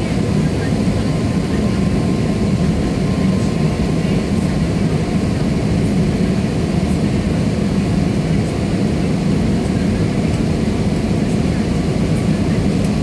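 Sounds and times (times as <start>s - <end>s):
aeroplane engines rumbling: 0.0s - 13.0s.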